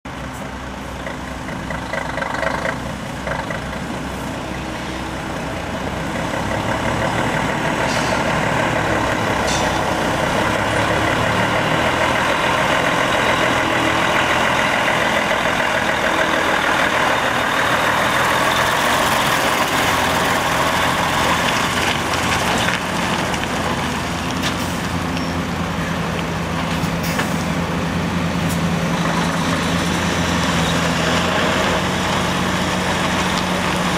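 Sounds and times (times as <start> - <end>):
truck diesel engine: 0.0 - 33.9.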